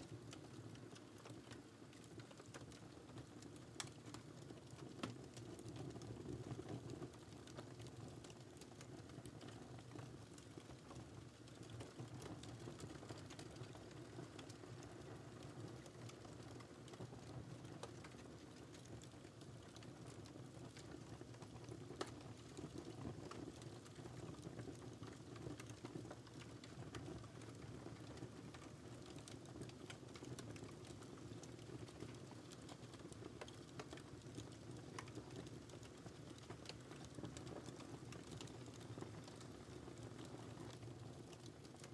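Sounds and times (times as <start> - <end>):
wood fire crackling: 0.1 - 41.9.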